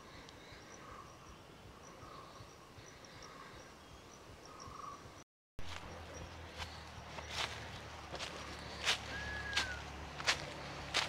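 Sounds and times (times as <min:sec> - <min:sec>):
steady hiss of wildlife: 0:00.0 - 0:11.0.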